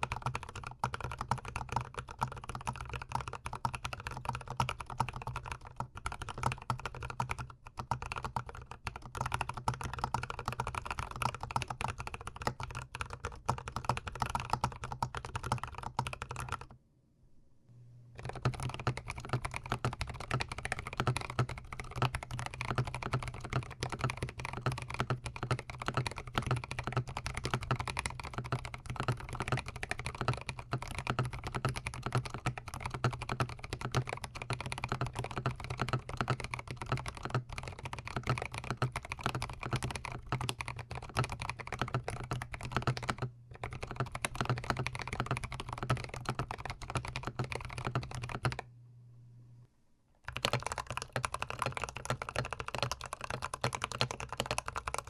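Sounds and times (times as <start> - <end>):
mechanical keyboard typing: 0.0 - 16.8, 18.2 - 48.6, 50.2 - 55.0.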